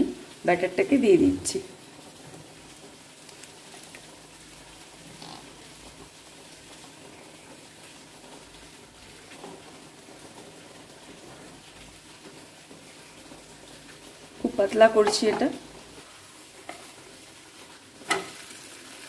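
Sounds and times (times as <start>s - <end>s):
batter sizzling in a pan: 0.0s - 19.0s.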